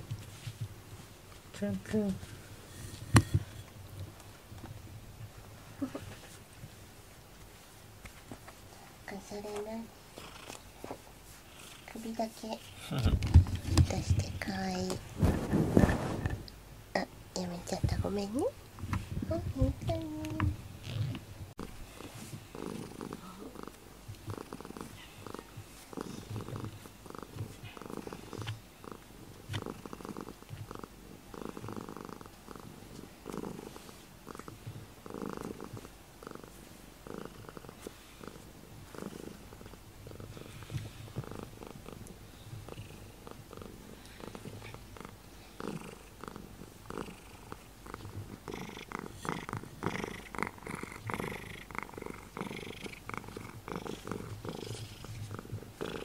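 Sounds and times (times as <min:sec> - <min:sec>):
cat purring: 0:08.7 - 0:10.9, 0:11.5 - 0:56.0.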